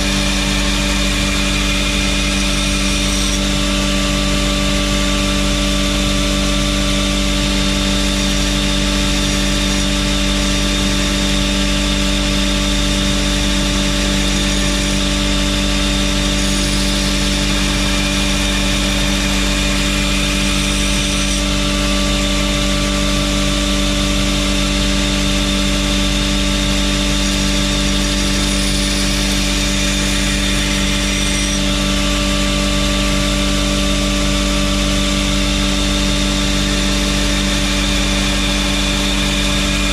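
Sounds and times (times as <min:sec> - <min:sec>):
belt grinder running: 0:00.0 - 0:39.9.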